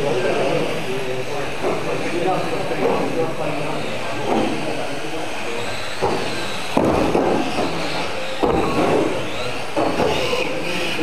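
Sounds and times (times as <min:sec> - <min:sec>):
rc car motors and tyres: 0:00.0 - 0:11.0.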